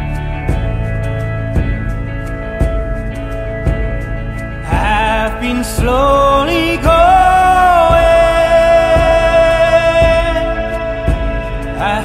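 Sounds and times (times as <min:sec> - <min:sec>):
soft beat: 0:00.0 - 0:12.0
sustained instrumental chords: 0:00.0 - 0:12.0.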